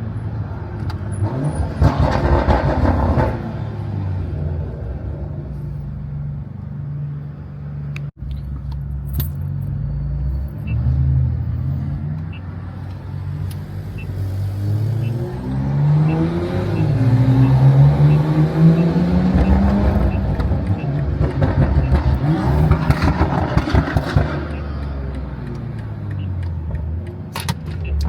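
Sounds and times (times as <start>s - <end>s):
car engine accelerating: 0.8s - 5.6s, 8.4s - 28.0s.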